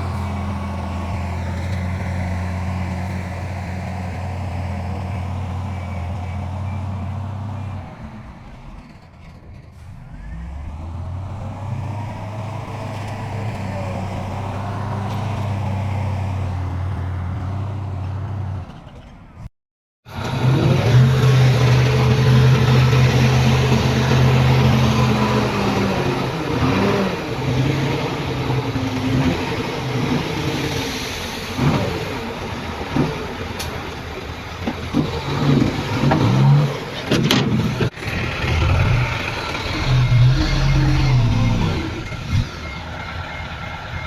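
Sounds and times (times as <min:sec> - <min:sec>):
heavy machinery diesel engines: 0:00.0 - 0:19.5, 0:20.1 - 0:44.0.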